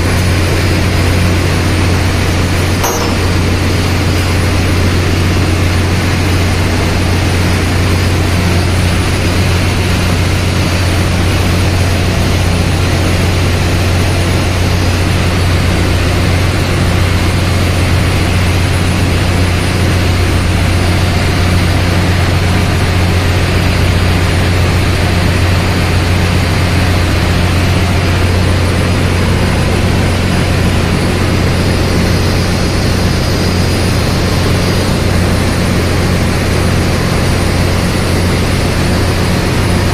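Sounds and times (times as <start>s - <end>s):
ship engine room machinery drone: 0.0s - 39.9s.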